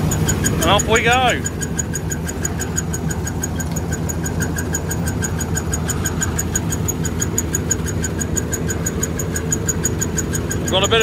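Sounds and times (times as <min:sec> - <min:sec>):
combine harvester engine hum: 0:00.0 - 0:11.0
fast even machinery squeak: 0:00.0 - 0:11.0.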